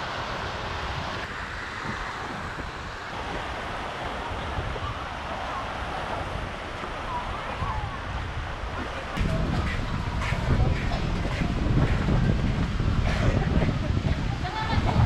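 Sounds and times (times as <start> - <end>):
sea surf washing: 0.0 - 15.0
wind buffeting microphone: 0.0 - 15.0
faint distant voices: 1.8 - 15.0.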